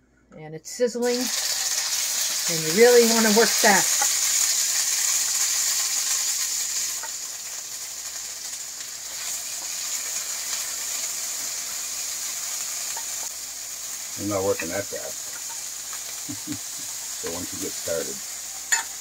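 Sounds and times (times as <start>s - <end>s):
paste sizzling in a wok: 1.0s - 19.0s.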